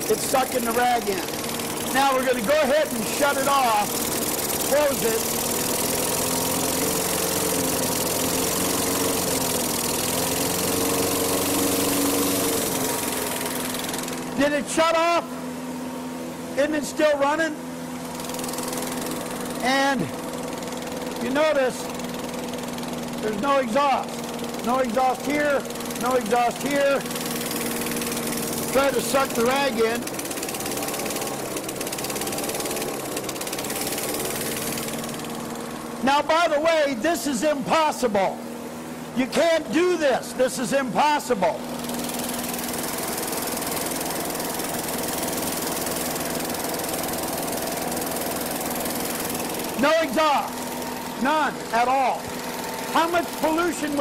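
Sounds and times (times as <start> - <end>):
lawn mower engine idling: 0.0 - 54.0.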